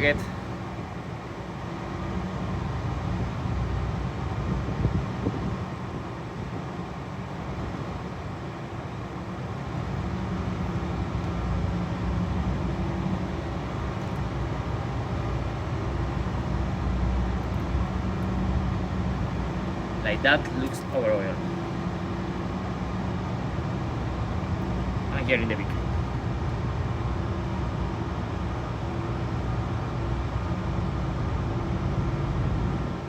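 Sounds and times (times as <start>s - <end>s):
rushing machinery drone: 0.0s - 33.0s.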